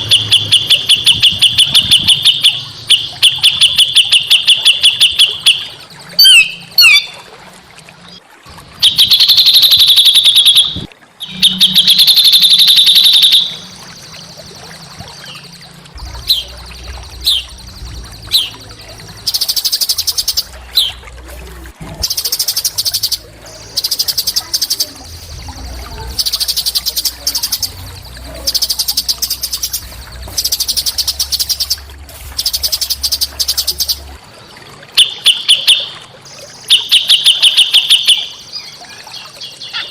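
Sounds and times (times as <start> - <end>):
songbird trilling and chattering: 0.0 - 7.2, 8.8 - 21.0, 22.1 - 34.0, 35.0 - 39.9.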